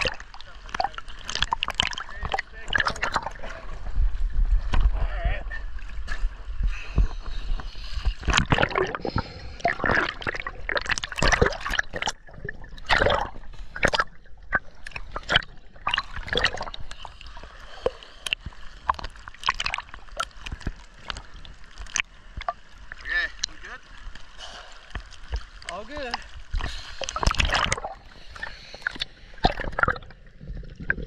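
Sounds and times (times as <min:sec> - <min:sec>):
sea water splashing and gurgling: 0:00.0 - 0:31.0.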